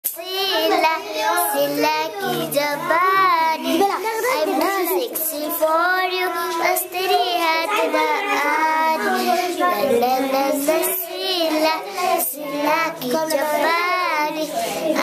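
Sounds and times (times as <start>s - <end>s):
children singing: 0.1s - 15.0s.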